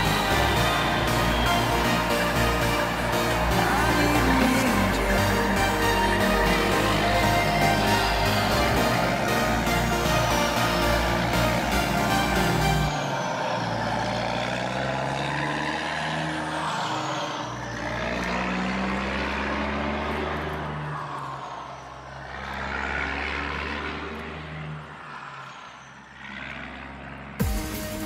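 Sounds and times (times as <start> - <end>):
heavy vehicle engine passing: 0.0 - 27.4.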